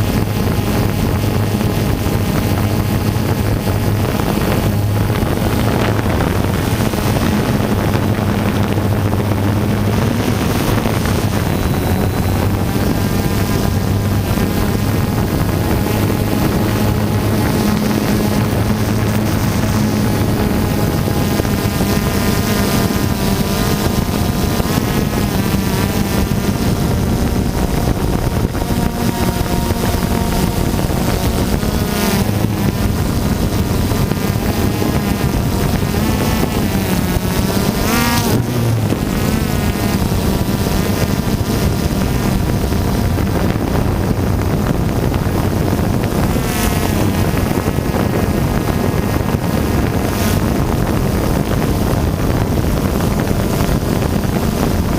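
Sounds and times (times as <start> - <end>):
drone propellers whining: 0.0 - 54.9
wind on microphone: 0.0 - 54.9.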